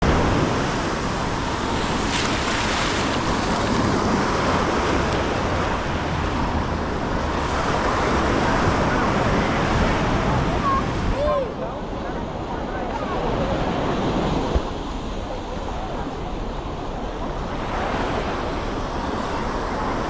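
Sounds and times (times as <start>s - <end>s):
ocean surf washing in: 0.0s - 20.0s
wind buffeting microphone: 0.0s - 20.0s.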